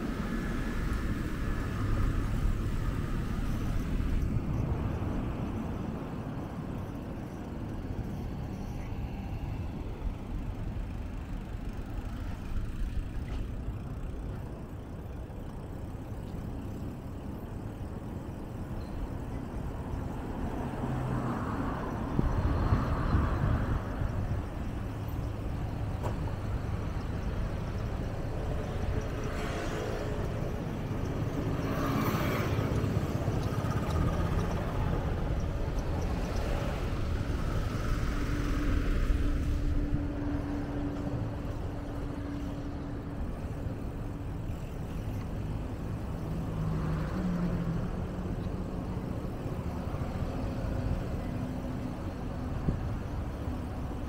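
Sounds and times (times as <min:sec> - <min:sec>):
cars passing: 0:00.0 - 0:54.0
steady low traffic rumble: 0:00.0 - 0:54.0.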